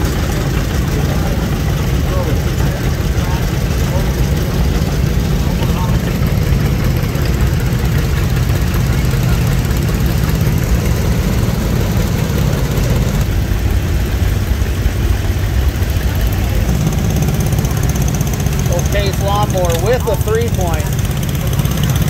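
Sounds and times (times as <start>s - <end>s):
tractor engines rumbling: 0.0s - 22.0s.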